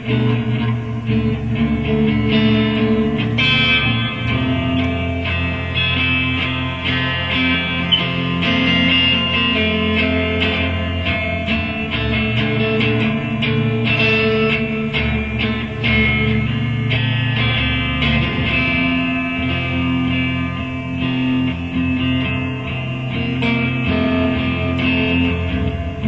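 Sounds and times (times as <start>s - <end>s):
electric guitar chords: 0.0s - 26.0s.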